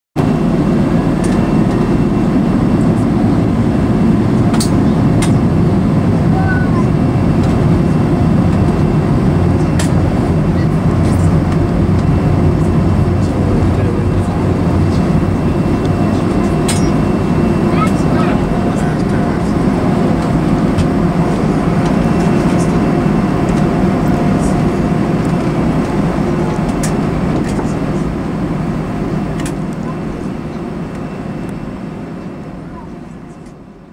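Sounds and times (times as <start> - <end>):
jet engines rumbling in cabin: 0.2 - 33.9.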